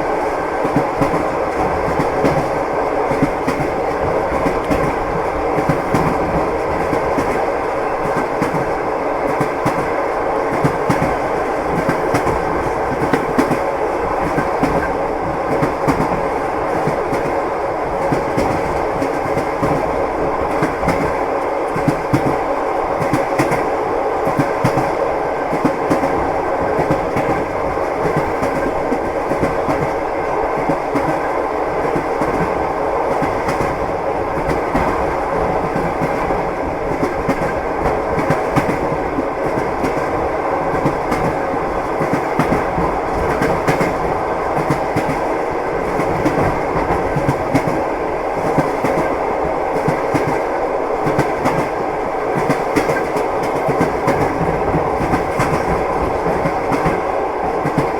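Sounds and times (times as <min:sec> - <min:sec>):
train wheels clattering on rails: 0:00.0 - 0:57.9.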